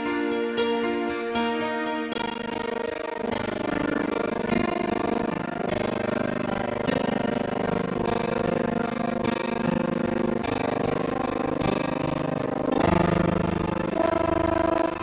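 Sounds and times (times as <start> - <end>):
sustained music chords: 0.0 - 15.0.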